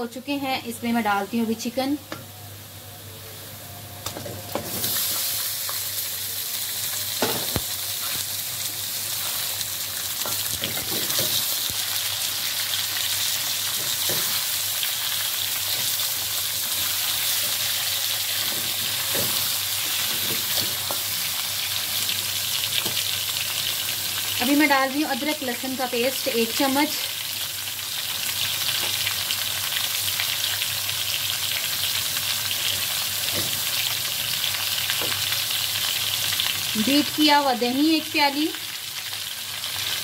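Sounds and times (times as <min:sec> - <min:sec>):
chicken sizzling in hot oil: 0:03.0 - 0:40.0.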